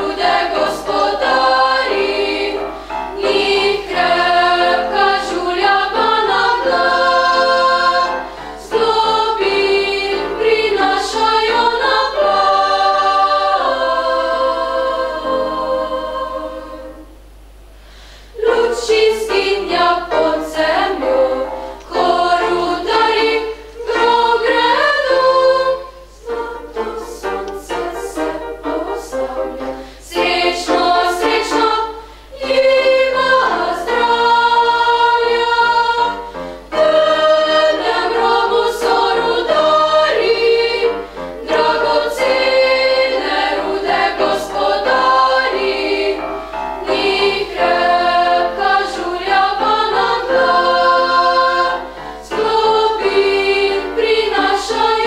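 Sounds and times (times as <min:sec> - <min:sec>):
youth choir singing: 0:00.0 - 0:17.2, 0:18.3 - 0:55.0.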